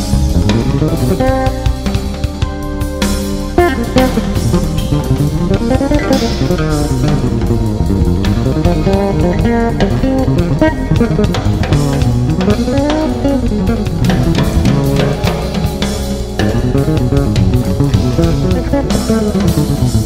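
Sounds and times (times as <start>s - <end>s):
drum kit: 0.0s - 20.0s
electric bass solo: 0.0s - 20.0s.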